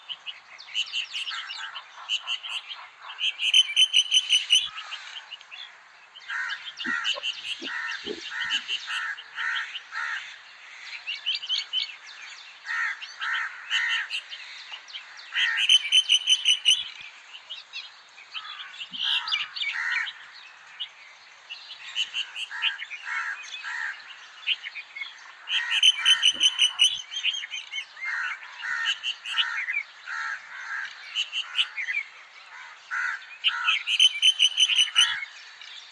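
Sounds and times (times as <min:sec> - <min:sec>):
birds chirping and singing: 0:00.0 - 0:35.9.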